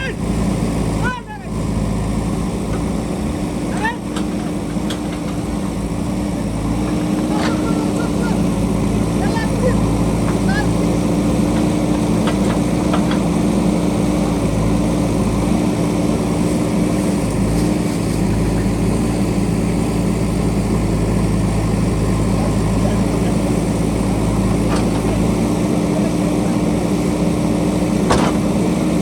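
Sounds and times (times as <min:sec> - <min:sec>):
diesel engine running steadily: 0:00.0 - 0:29.0.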